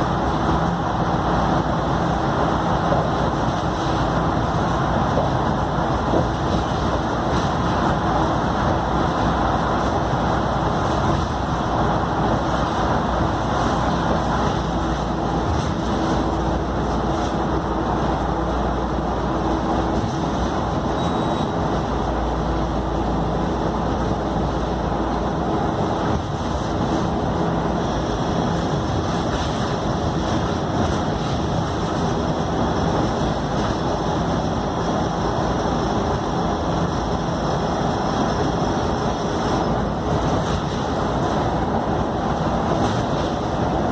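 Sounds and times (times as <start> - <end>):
bus diesel engine droning: 0.0 - 43.9.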